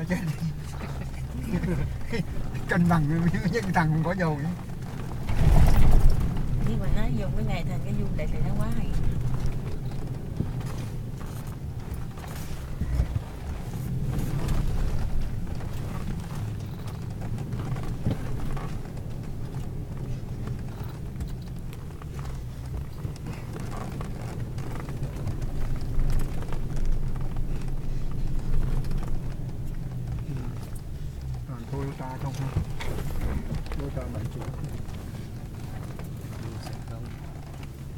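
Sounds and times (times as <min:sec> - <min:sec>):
engine and road rumble: 0:00.0 - 0:37.9
vehicle body creaks and rattles: 0:00.0 - 0:37.9.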